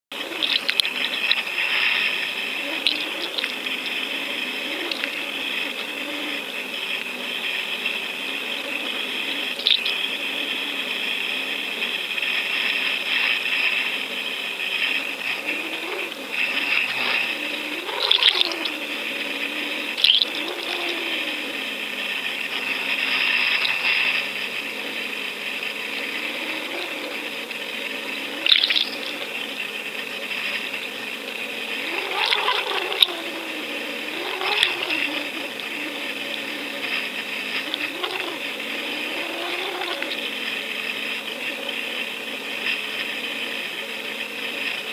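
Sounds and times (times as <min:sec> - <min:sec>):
water rushing: 0:00.1 - 0:11.0, 0:14.7 - 0:41.8
steady high whine: 0:00.1 - 0:44.9
low hum varying in pitch: 0:00.2 - 0:44.9.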